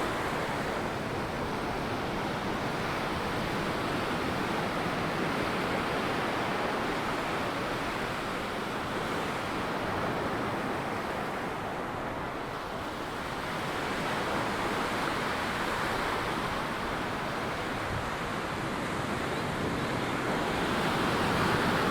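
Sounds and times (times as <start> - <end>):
ocean surf washing up a beach: 0.0 - 21.9.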